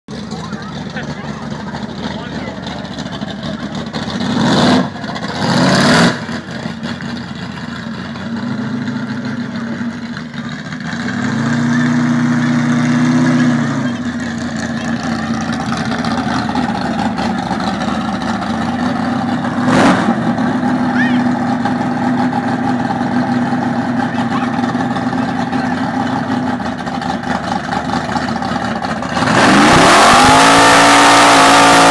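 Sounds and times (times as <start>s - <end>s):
truck engine revving: 0.1s - 31.9s.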